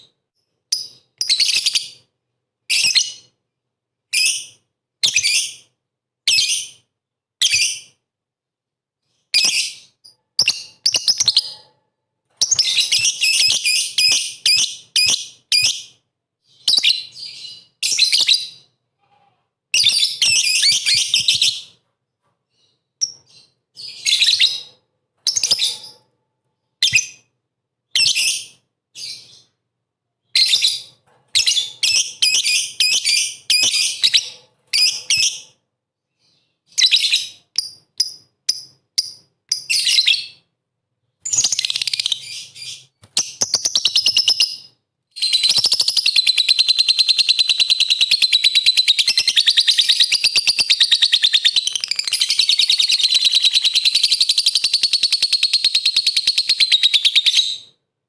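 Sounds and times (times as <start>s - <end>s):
shrill bird chirping: 0.0s - 3.4s, 4.1s - 8.0s, 9.0s - 18.9s, 19.7s - 21.8s, 22.5s - 29.6s, 30.2s - 57.8s.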